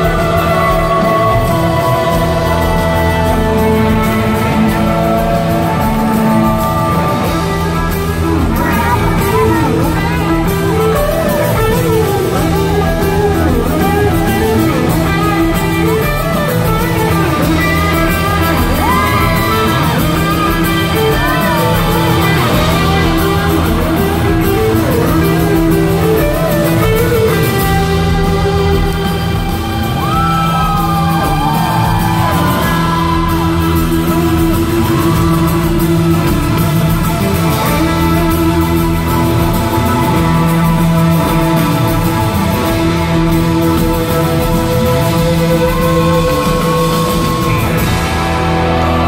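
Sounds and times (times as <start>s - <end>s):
electric guitar solo: 0.0s - 49.0s
rock band playing: 0.0s - 49.0s.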